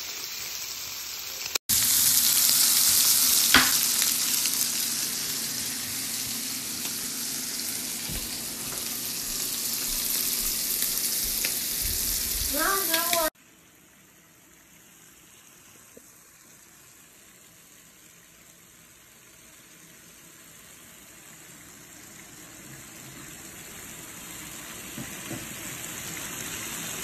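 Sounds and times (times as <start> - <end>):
meat sizzling on a grill: 0.0 - 27.0.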